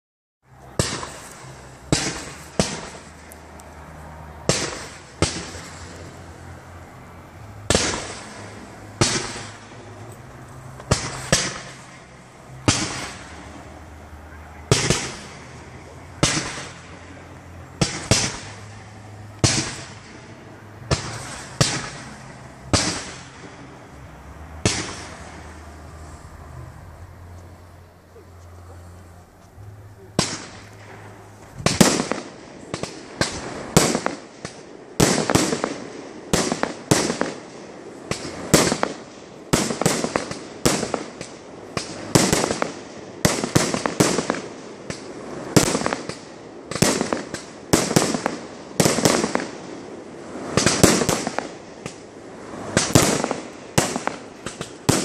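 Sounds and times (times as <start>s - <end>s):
fireworks bursting with bangs: 0.5s - 55.0s.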